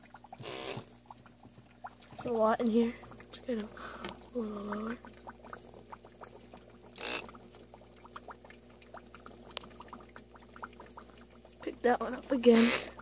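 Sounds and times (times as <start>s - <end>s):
aquarium water trickling and bubbling: 0.0s - 13.0s
low steady hum: 0.0s - 13.0s.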